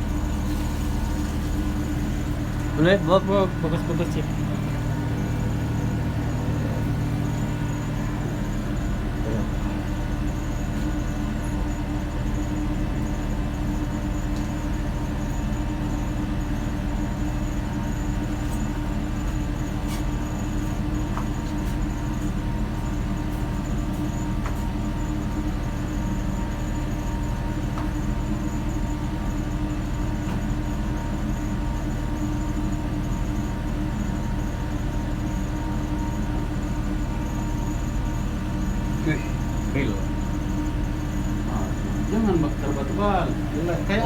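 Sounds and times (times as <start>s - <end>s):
ship machinery droning: 0.0s - 44.0s.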